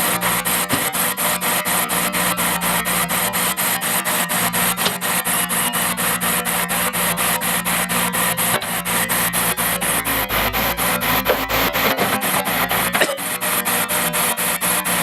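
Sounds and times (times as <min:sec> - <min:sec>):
earthmoving machine engine hum: 0:00.0 - 0:15.0
pulsing rasping noise: 0:00.0 - 0:15.0.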